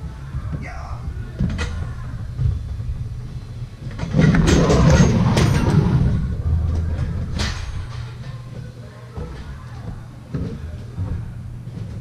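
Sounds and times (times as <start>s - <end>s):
machinery low rumble: 0.0s - 12.0s.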